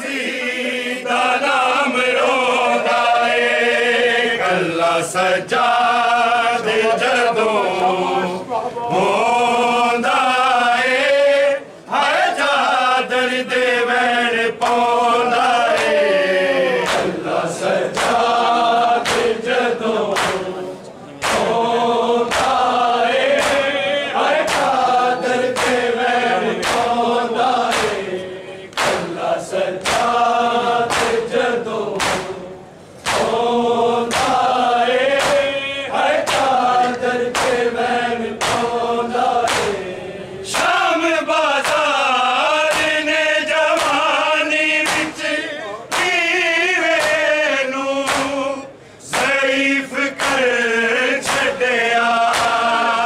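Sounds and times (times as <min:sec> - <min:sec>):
men chanting together: 0:00.0 - 0:53.0.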